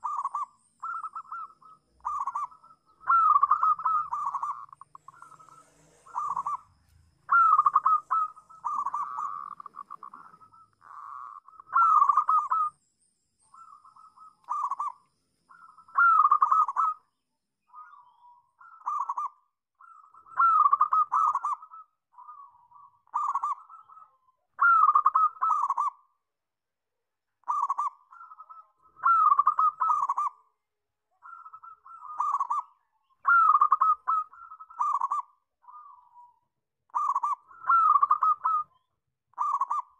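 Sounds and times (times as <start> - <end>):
dove cooing: 0.0 - 12.8, 13.5 - 17.1, 17.7 - 26.1, 27.4 - 30.5, 31.2 - 39.9.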